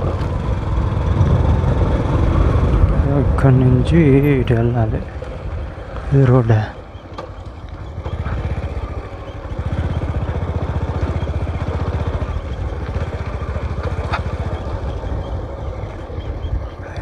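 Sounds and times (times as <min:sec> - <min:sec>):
small motorcycle engine: 0:00.0 - 0:17.0.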